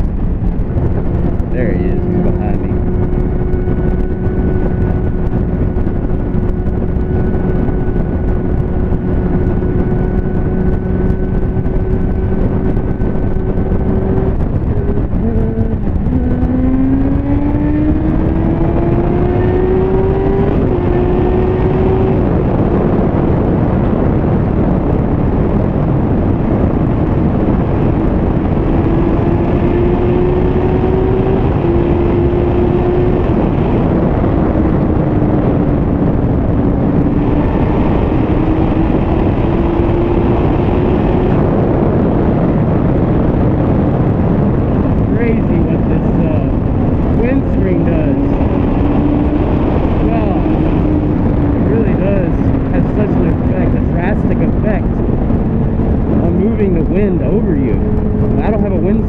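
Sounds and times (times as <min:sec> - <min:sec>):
motorcycle engine: 0:00.0 - 0:59.0
wind rush: 0:00.0 - 0:59.0.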